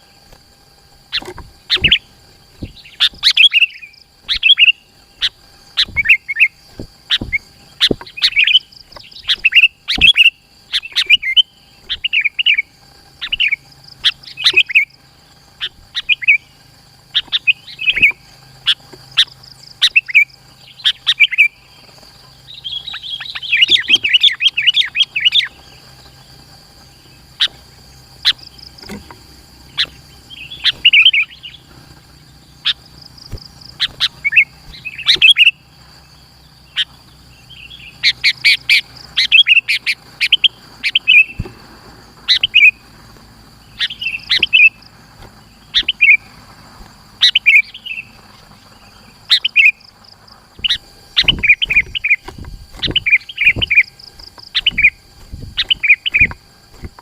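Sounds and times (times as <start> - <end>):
bulbul bird singing: 0.0 - 57.0.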